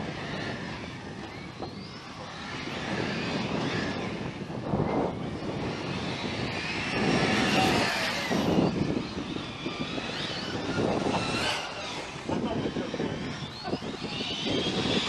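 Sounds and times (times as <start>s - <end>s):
model motor whining: 0.0s - 15.0s.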